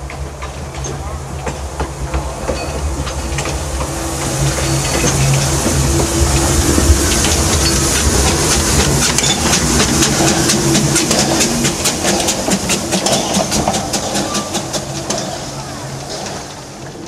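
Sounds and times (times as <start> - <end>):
rapid even clicking of train: 0.0 - 17.0
steam locomotive hum: 0.0 - 17.0.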